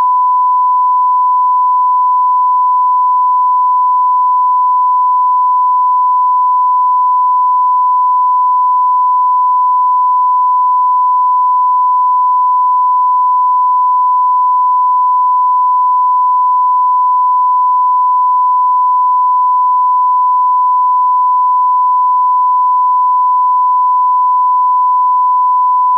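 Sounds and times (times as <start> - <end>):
continuous test tone beep: 0.0 - 25.9.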